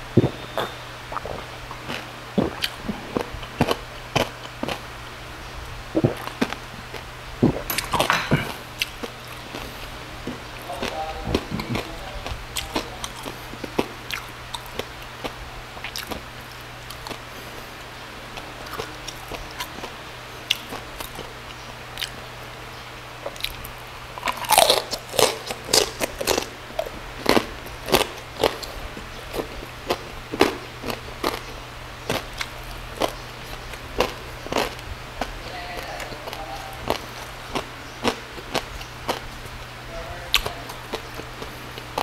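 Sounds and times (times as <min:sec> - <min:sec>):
crunchy chewing: 0:00.0 - 0:42.0.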